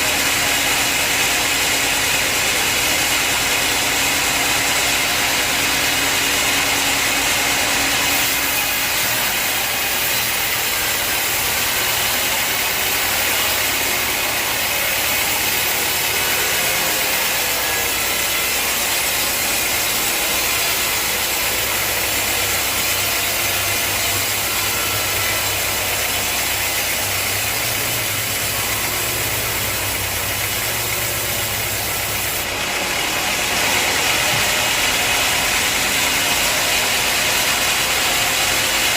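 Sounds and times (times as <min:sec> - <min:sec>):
high hissing saw: 0:00.0 - 0:38.9.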